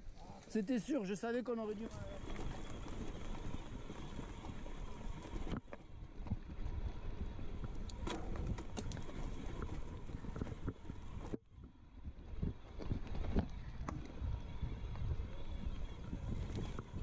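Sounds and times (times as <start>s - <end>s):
bike rattling: 0.5s - 17.0s
bike tyre rumble: 1.4s - 17.0s
wind buffeting microphone: 1.9s - 17.0s.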